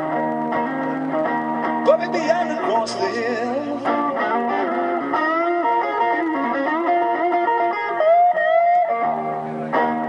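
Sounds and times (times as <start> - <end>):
electric guitar blues lead: 0.0 - 10.0.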